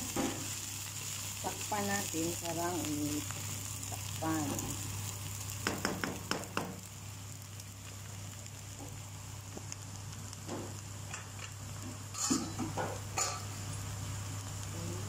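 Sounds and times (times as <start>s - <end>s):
rice sizzling in a pan: 0.0s - 15.0s.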